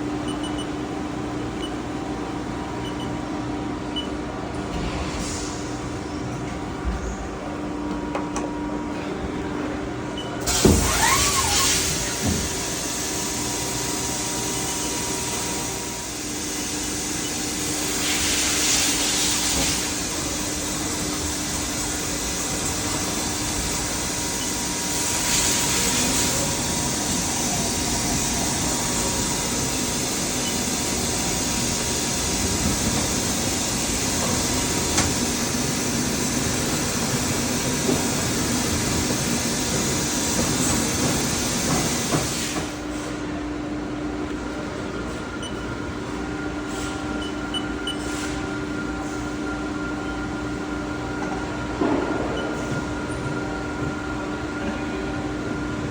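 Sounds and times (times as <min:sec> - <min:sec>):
lathe mechanical hum: 0:00.0 - 0:55.9.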